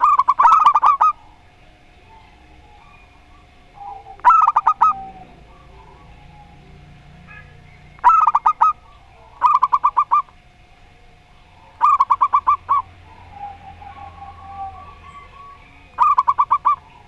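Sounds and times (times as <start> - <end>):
doves cooing: 0.0 - 17.0
faint steady tone: 0.0 - 17.0.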